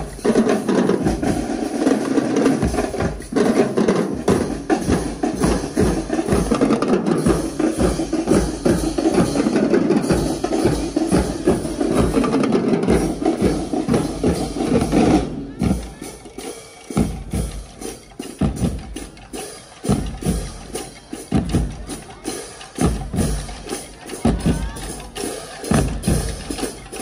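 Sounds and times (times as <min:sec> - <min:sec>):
marching drums: 0:00.0 - 0:27.0
rapid snare drum strokes: 0:00.0 - 0:27.0.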